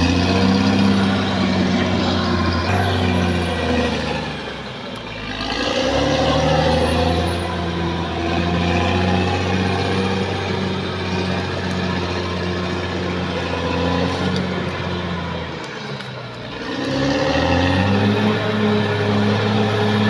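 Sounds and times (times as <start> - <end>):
bulldozer diesel engine: 0.0 - 20.0.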